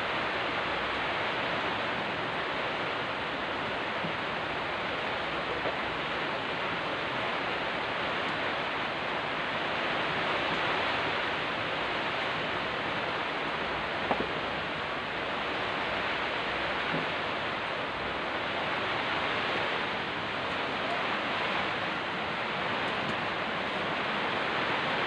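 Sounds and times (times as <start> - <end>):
heavy rain: 0.0 - 25.0
wind: 0.0 - 25.0.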